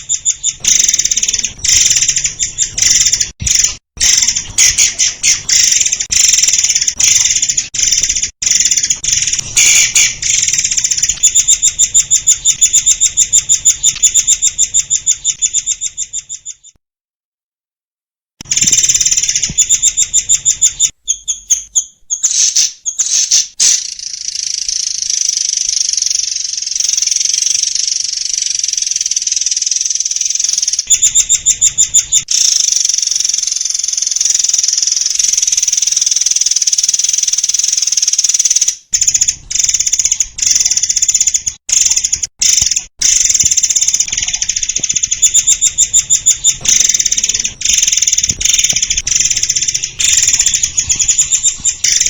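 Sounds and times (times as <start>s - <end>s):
bird singing rapid trills: 0.0s - 16.8s, 18.5s - 52.0s.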